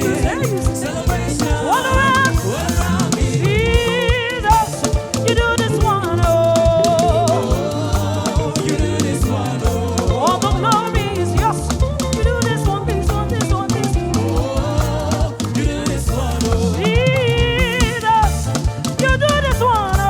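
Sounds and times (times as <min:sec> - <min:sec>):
drum kit beat: 0:00.0 - 0:20.0
live band playing gospel song: 0:00.0 - 0:20.0
person singing: 0:00.0 - 0:20.0.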